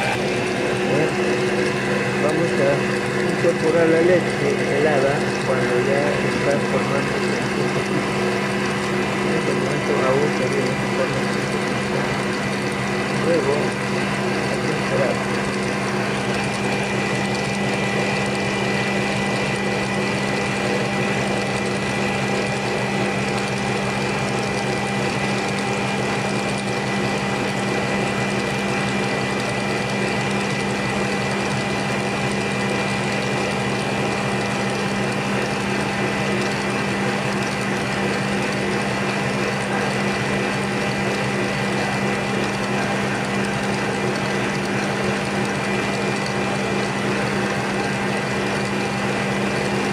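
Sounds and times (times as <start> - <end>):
stand mixer motor hum: 0.0 - 49.9
whisk beating in metal bowl: 0.0 - 49.9.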